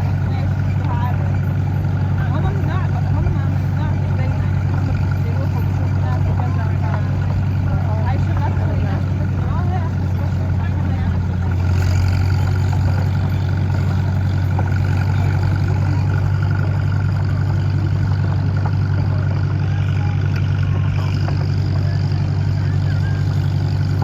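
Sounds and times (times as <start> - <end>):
engine humming steadily: 0.0 - 24.0.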